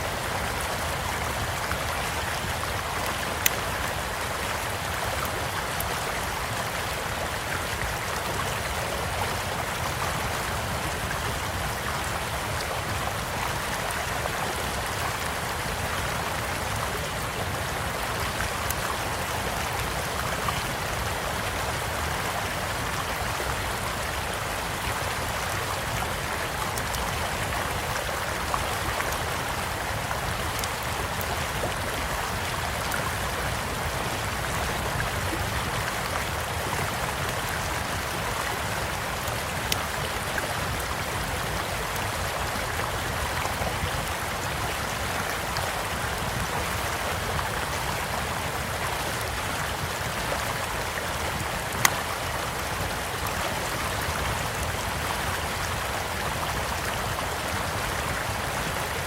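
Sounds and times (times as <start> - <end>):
small stream flowing: 0.0 - 59.0.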